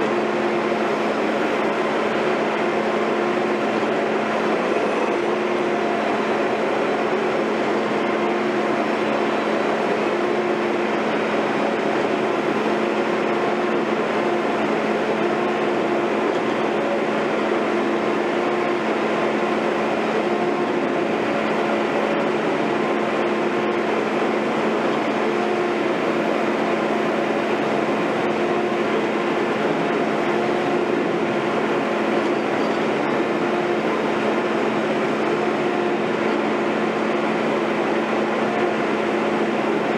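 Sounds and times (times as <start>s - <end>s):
construction machinery engine running: 0.0s - 39.9s.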